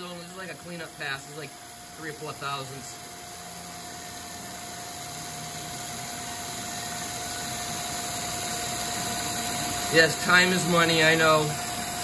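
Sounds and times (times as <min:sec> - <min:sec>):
milling machine cutting steel: 0:00.0 - 0:12.0.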